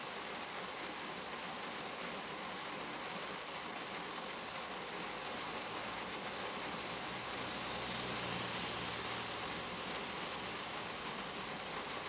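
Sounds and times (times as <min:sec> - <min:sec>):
rain on a windshield: 0:00.0 - 0:12.0.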